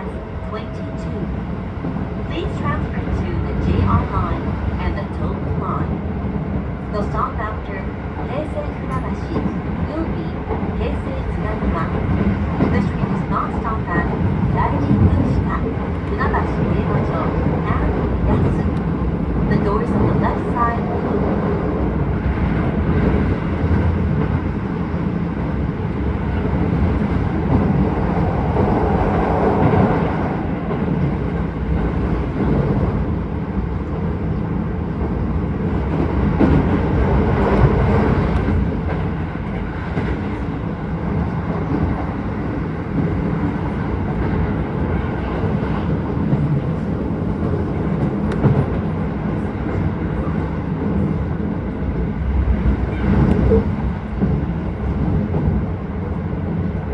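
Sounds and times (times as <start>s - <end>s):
train wheels rumbling on rail: 0.0s - 56.9s.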